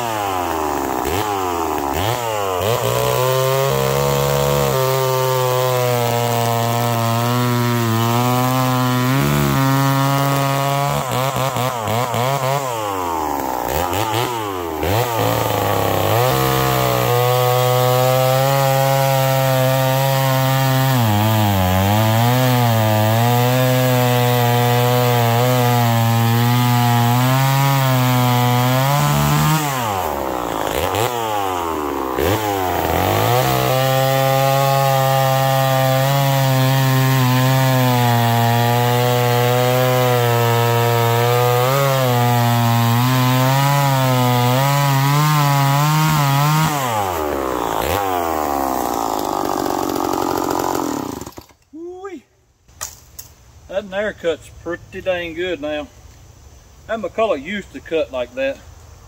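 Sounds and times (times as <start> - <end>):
chainsaw cutting through log: 0.0 - 52.0.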